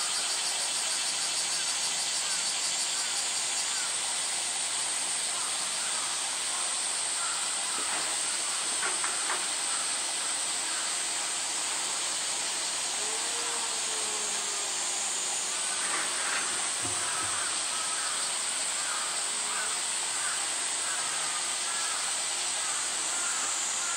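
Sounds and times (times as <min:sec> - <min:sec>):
cicada chorus hissing: 0:00.0 - 0:23.9.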